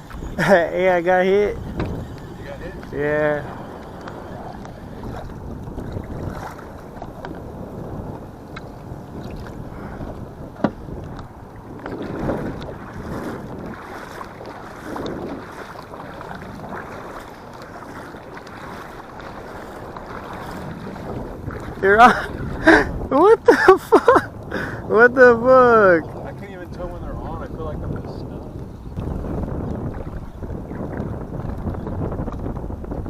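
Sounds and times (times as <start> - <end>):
water lapping: 0.0 - 33.0
wind buffeting microphone: 0.0 - 33.0.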